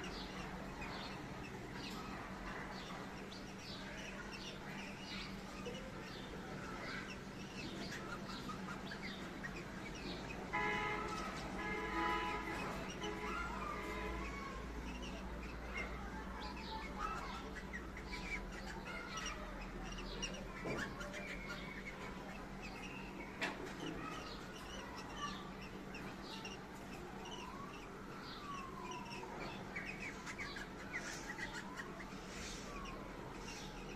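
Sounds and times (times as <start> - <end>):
cockatiels chirping: 0.0 - 33.9.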